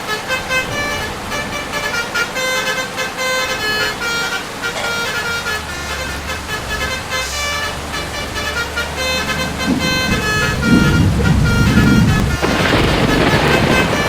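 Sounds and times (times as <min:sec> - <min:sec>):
engine humming: 0:00.0 - 0:14.0
low rumbling: 0:00.0 - 0:14.0
multi-tone air horn: 0:00.0 - 0:14.0.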